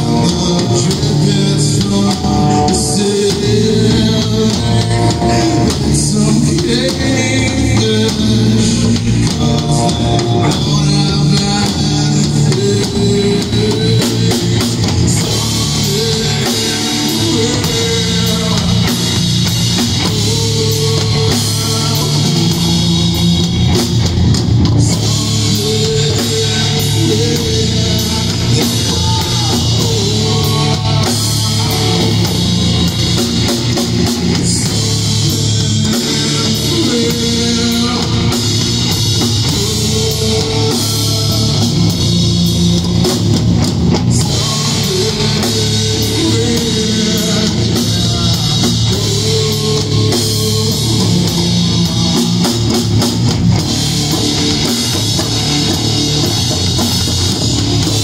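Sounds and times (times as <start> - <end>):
bass guitar: 0.0 - 58.0
drum kit with cymbal strikes: 0.0 - 58.0
electric guitar chords: 0.0 - 58.0.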